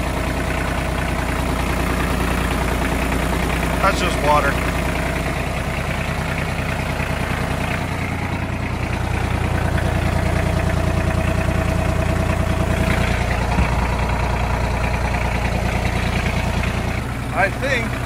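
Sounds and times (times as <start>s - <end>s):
diesel tractor engine idling: 0.0s - 18.0s.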